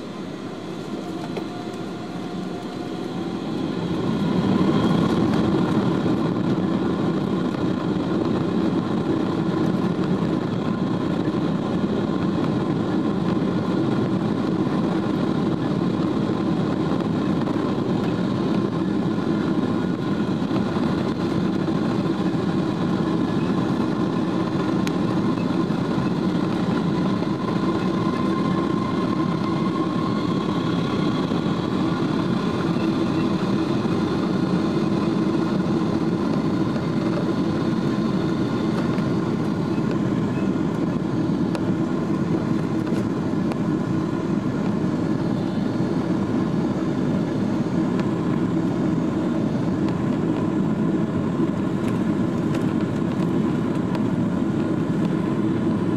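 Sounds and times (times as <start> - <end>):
high engine whine: 0.0 - 55.9
jet engines roaring: 0.0 - 55.9.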